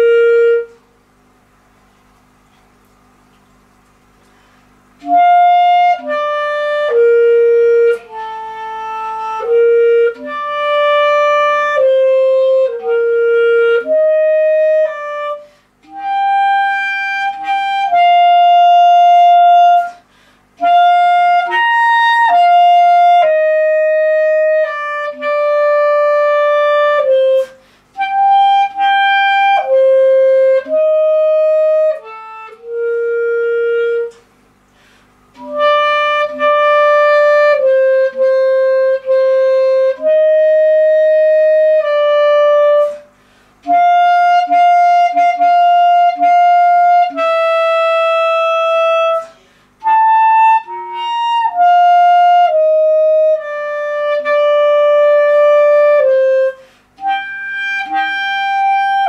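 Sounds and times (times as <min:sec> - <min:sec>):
clarinet playing slow melody: 0:00.0 - 0:01.1, 0:03.7 - 0:59.0.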